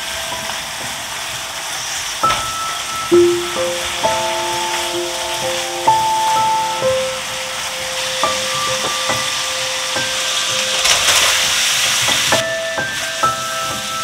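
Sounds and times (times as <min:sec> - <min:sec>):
food sizzling in a wok: 0:00.0 - 0:14.0
background music sustained notes: 0:02.2 - 0:14.0.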